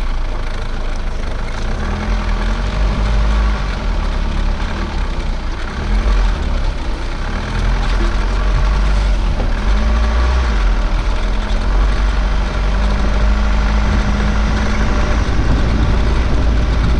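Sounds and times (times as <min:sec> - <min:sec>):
vehicle driving on dirt track: 0:00.0 - 0:16.9.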